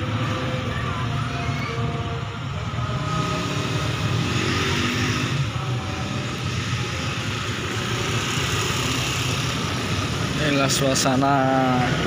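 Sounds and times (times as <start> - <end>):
scooter engines humming: 0.0 - 12.0.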